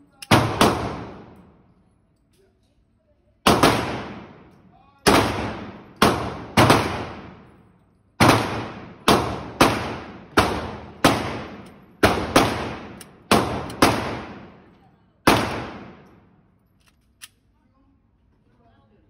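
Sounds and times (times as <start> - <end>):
pistol shots echoing indoors: 0.0 - 17.5.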